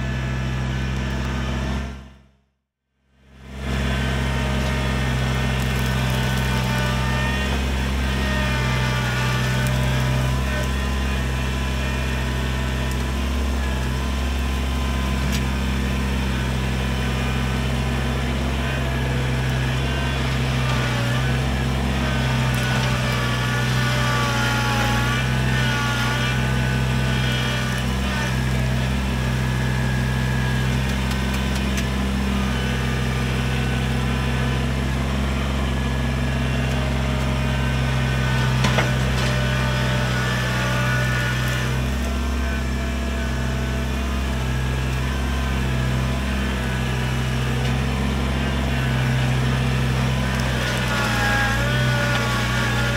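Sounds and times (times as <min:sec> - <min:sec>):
tractor diesel engine running: 0:00.0 - 0:02.4, 0:03.1 - 0:52.9.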